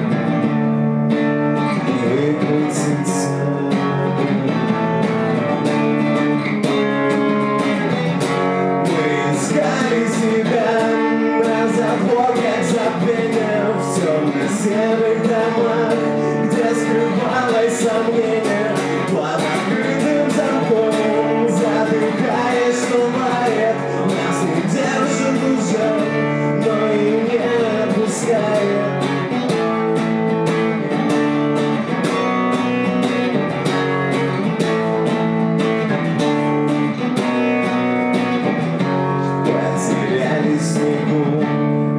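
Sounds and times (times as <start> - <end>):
strummed acoustic guitar: 0.0 - 41.9
person singing: 1.6 - 5.0, 5.6 - 32.2, 34.1 - 41.9.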